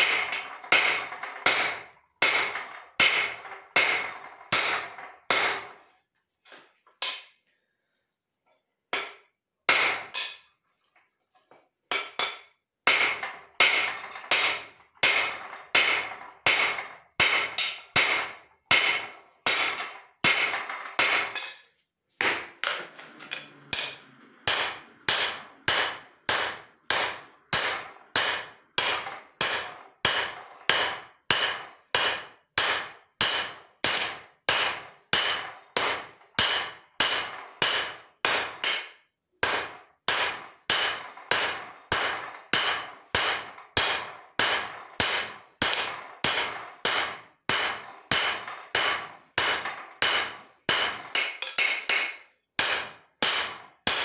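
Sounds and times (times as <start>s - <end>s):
hammer striking steel on anvil: 0.0s - 5.8s, 9.0s - 10.5s, 11.9s - 54.0s.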